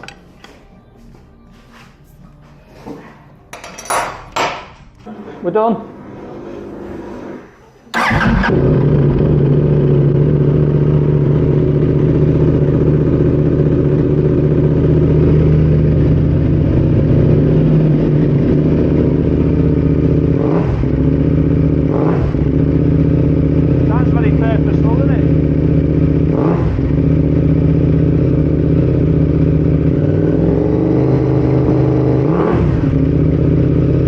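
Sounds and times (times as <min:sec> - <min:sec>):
motorcycle engine starting and idling: 0:06.4 - 0:34.0.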